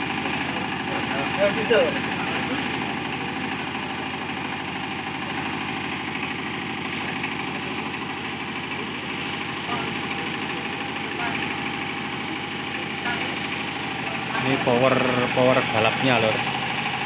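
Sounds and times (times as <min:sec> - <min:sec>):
diesel generator idling: 0:00.0 - 0:17.0.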